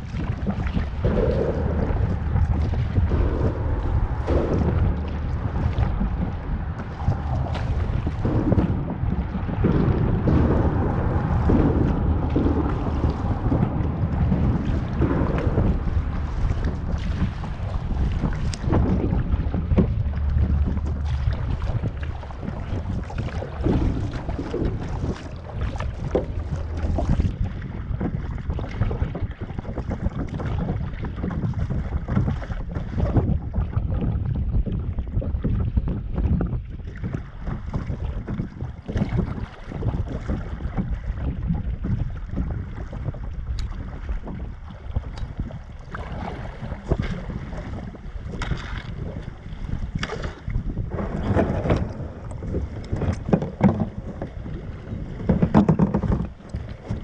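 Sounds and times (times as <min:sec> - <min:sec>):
kayak paddles splashing water: 0:00.0 - 0:57.0
wind buffeting microphone: 0:00.0 - 0:57.0.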